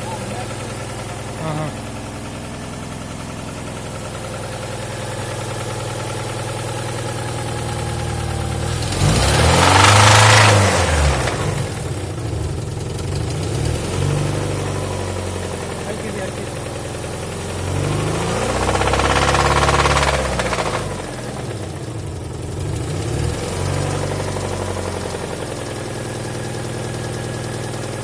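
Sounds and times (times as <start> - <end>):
car engine idling and revving: 0.0 - 28.0
engine knocking: 0.0 - 28.0.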